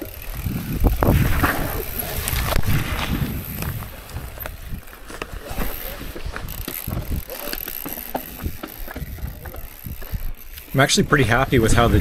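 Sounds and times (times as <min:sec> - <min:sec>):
bike knocking and rattling: 0:00.0 - 0:12.0
bike tyre rumble on dirt: 0:00.0 - 0:12.0
grass brushing against bike: 0:00.0 - 0:12.0.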